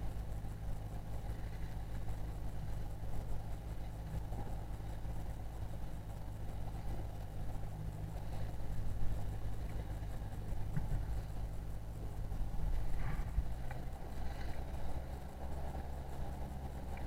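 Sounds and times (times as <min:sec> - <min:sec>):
outboard motor running: 0:00.0 - 0:17.0
water noise: 0:00.0 - 0:17.0
wind: 0:00.0 - 0:17.0.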